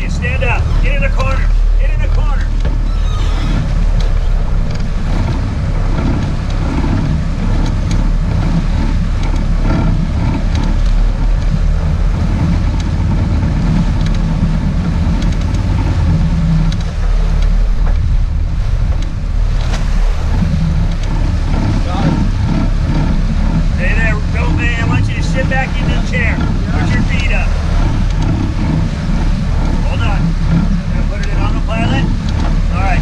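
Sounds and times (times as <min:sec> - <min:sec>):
boat engine rumbling: 0:00.0 - 0:33.0
water washing: 0:00.0 - 0:33.0
wind buffeting microphone: 0:00.0 - 0:33.0.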